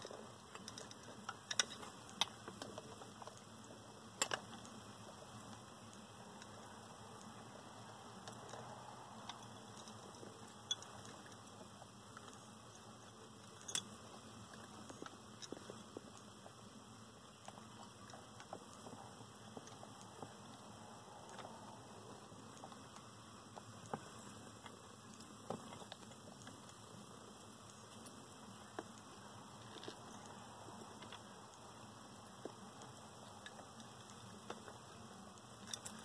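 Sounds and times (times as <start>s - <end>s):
hermit crabs clicking and scratching: 0.0s - 36.0s
light steady hiss: 0.0s - 36.0s.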